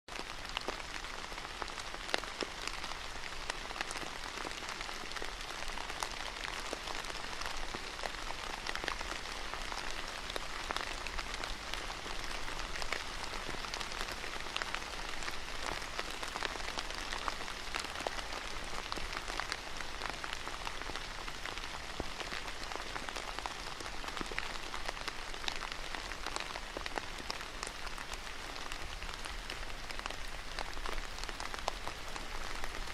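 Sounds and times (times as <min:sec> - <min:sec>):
rain on paved terrace: 0:00.1 - 0:32.9.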